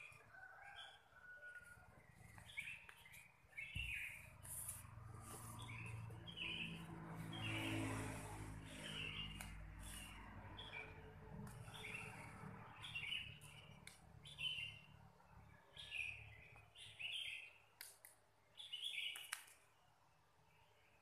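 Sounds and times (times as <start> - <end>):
bird chirping: 0.0 - 17.8, 18.4 - 19.9.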